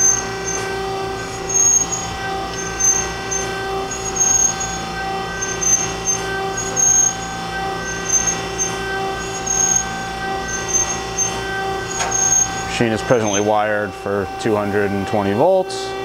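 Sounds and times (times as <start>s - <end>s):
high machine tone pulses: 0.0s - 16.0s
surface grinder running: 0.0s - 16.0s.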